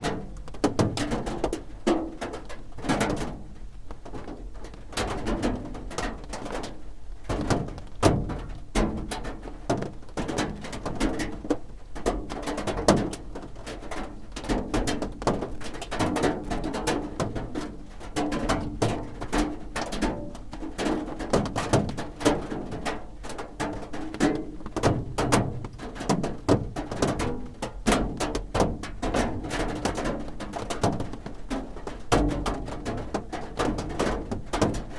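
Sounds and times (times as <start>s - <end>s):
raindrops drumming on a roof: 0.0s - 34.9s.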